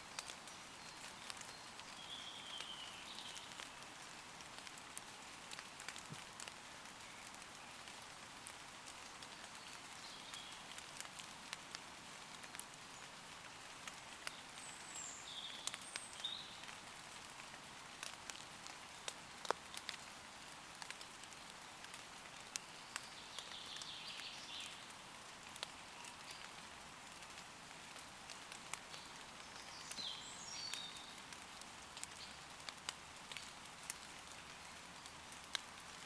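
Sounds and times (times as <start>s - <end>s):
light rain on leaves: 0.0s - 36.0s.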